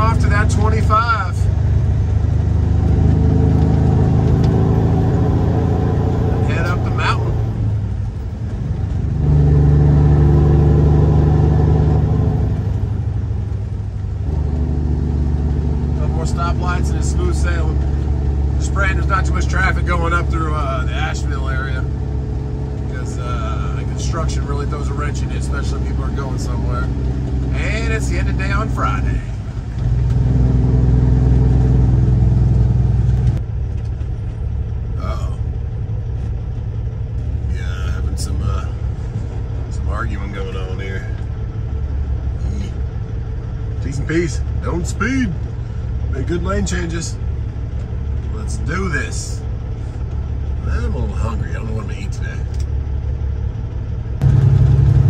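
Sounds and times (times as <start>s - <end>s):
road noise inside cab: 0.0s - 55.0s
truck diesel engine running: 0.0s - 55.0s.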